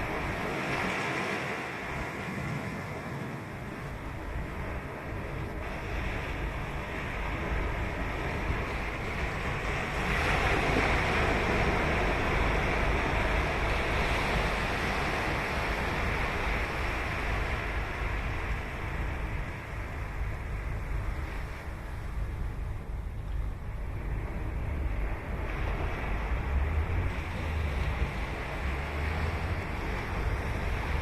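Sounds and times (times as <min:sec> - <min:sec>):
steady low rumble: 0:00.0 - 0:00.8, 0:01.7 - 0:31.0
ocean surf on sandy beach: 0:00.0 - 0:31.0.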